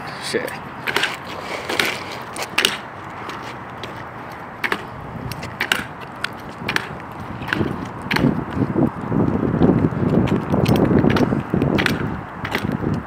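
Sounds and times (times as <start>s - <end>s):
scooter wheels rolling on pavement: 0.0s - 13.0s
scooter clacks and knocks: 0.8s - 8.6s, 9.3s - 13.0s.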